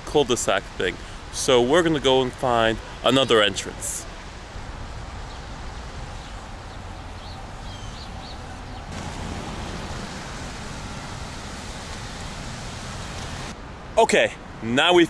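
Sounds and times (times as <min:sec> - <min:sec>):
distant traffic rumble: 0:00.7 - 0:14.6.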